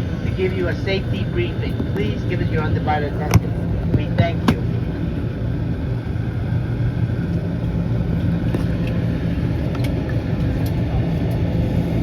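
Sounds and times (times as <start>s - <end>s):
airliner cabin hum: 0.0s - 12.0s.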